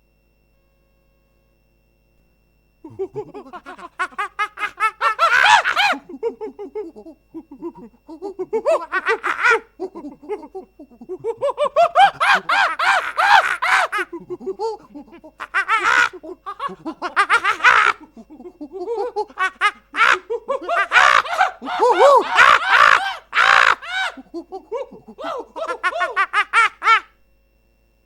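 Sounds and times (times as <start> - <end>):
high-pitched laughing: 2.9 - 27.0.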